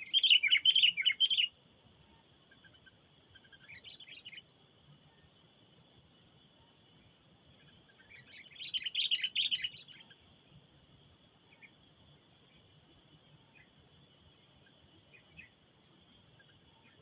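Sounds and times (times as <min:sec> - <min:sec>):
songbird chirping: 0:00.0 - 0:17.0
steady high hum: 0:00.0 - 0:17.0.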